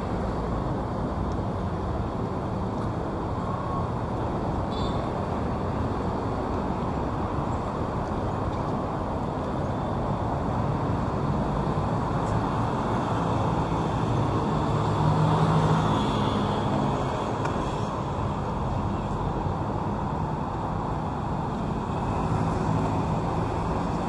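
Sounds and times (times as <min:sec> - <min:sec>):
road traffic passing: 0:00.0 - 0:24.0
vehicle engine hum passing: 0:02.1 - 0:24.0.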